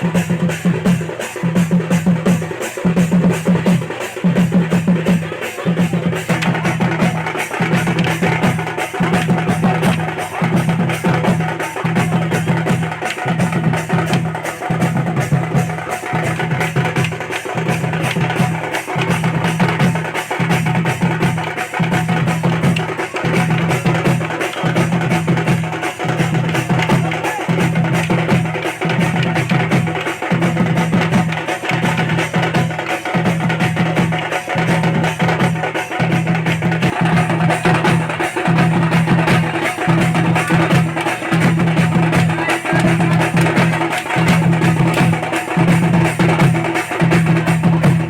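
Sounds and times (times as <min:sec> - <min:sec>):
deep drum beat: 0:00.0 - 0:48.0
fast sharp percussion strokes: 0:00.0 - 0:48.0
loud music with heavy drumming: 0:00.0 - 0:48.0.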